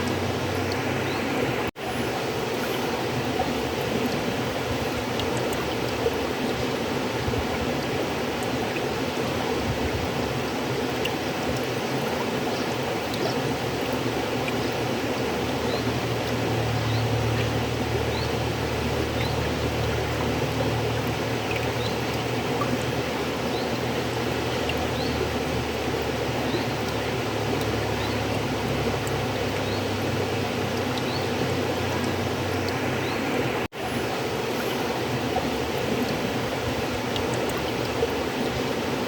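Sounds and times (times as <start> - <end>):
river water flowing: 0.0 - 39.0
small water splashes: 0.0 - 39.0.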